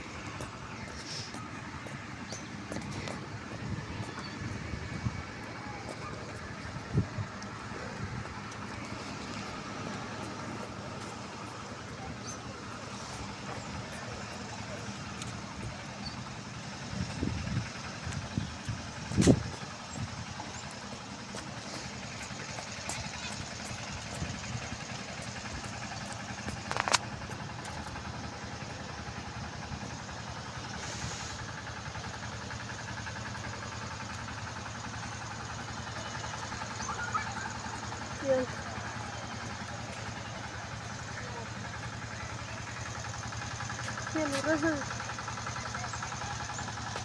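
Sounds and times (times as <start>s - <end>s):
vehicle engine running: 0.0s - 47.0s.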